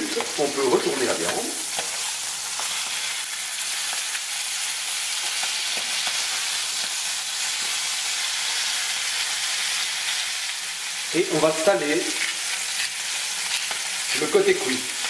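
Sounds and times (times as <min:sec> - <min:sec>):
steaks sizzling in frying pan: 0:00.0 - 0:15.0.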